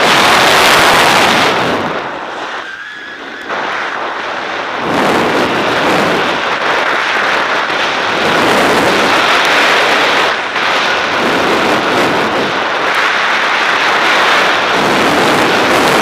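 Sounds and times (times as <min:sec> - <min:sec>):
skis scraping over packed snow: 0:00.0 - 0:16.0
wind rushing past microphone: 0:00.0 - 0:16.0.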